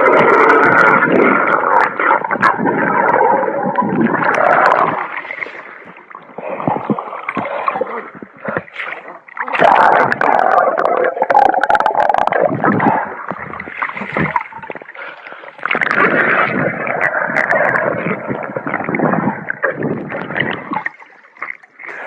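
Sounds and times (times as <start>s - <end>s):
water splashing while swimming: 0.0s - 22.0s.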